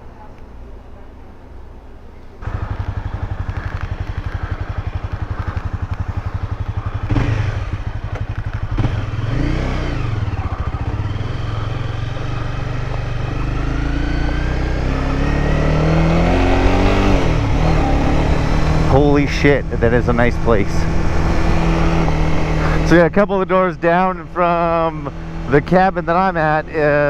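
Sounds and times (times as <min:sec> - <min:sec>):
motorcycle engine idling and revving: 0:02.4 - 0:27.0.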